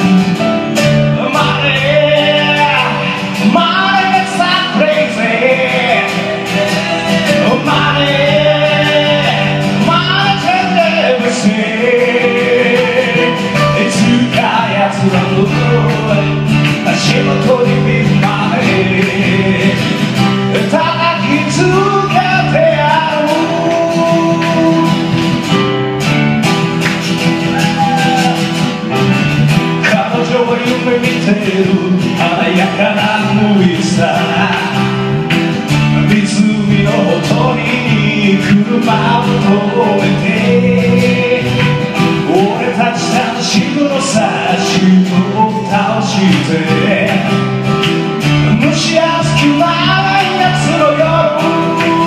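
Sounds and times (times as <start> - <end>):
man singing: 0.0 - 25.7, 27.4 - 52.0
keyboard: 0.0 - 52.0
strummed acoustic guitar: 0.0 - 52.0.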